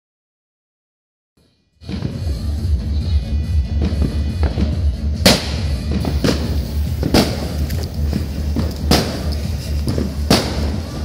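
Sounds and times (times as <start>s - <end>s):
background music with bass and drums: 1.8s - 11.0s.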